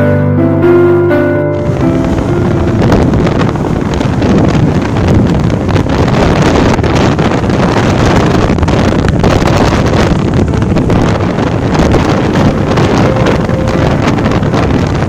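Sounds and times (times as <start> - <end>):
engine running: 0.0 - 15.0
wind buffeting microphone: 0.6 - 15.0.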